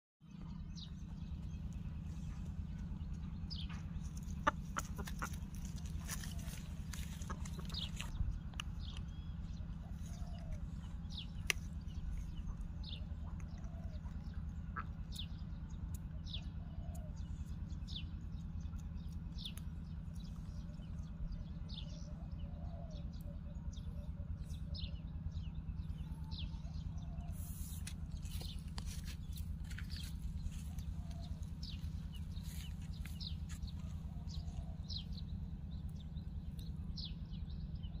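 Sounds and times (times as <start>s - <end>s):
birds chirping: 0.2s - 38.0s
low background rumble: 0.2s - 38.0s.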